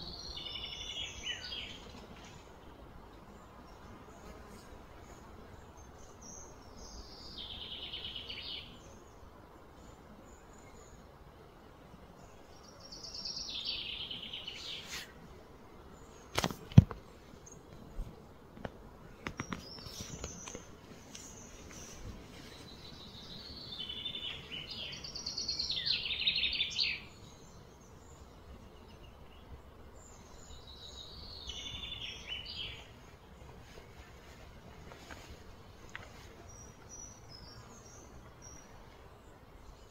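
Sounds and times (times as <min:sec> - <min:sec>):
outdoor ambience: 0:00.0 - 0:39.9.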